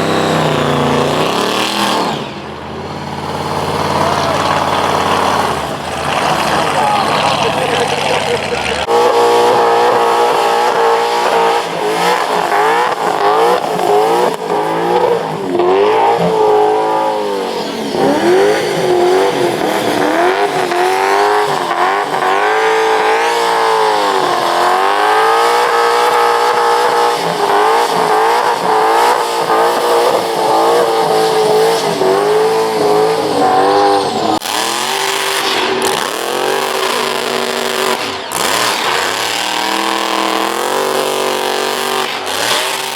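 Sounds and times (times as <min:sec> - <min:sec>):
car engine at high revs: 0:00.0 - 0:42.9
tyres spinning and squealing: 0:00.0 - 0:42.9.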